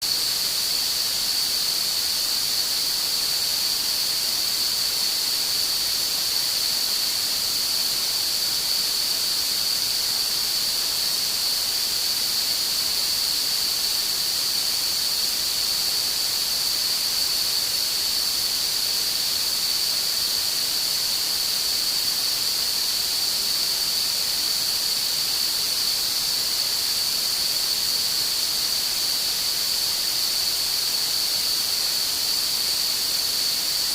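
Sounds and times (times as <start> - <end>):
steady high hiss: 0.0 - 33.9.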